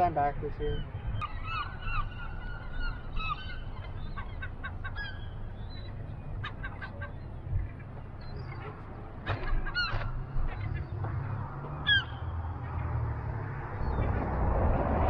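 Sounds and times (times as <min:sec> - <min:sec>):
birds calling: 0:00.0 - 0:14.7.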